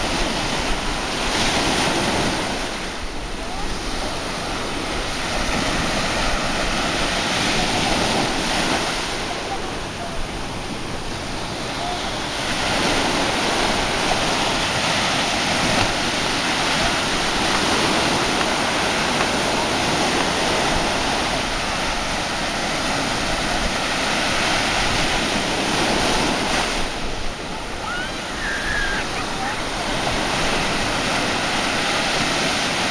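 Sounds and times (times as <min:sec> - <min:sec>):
small waves breaking: 0:00.0 - 0:32.9.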